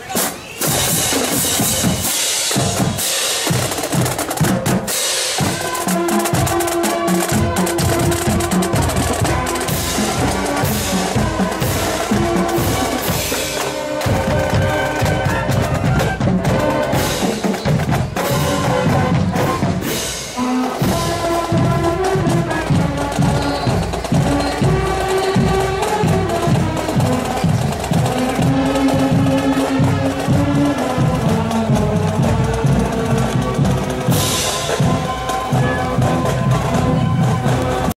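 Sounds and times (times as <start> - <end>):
marching drums: 0.0 - 37.9
saxophones and brass: 4.8 - 37.9.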